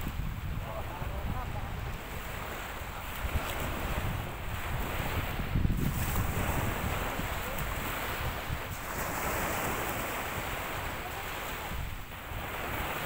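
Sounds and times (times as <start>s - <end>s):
small waves washing: 0.0s - 13.0s
wind buffeting microphone: 0.0s - 13.0s.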